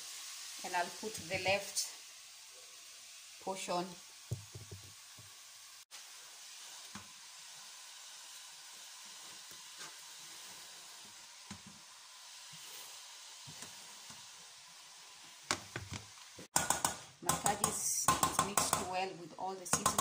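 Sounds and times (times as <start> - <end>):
onion frying in oil: 0.0 - 20.0.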